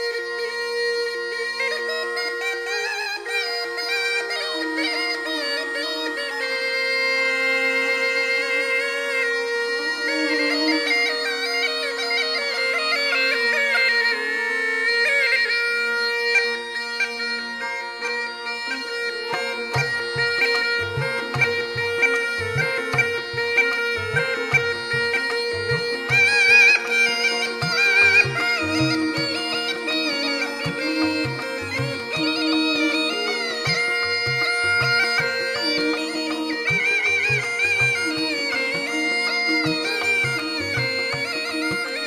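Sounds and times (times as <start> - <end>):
gourd pipe melody with drone: 0.1 - 42.0.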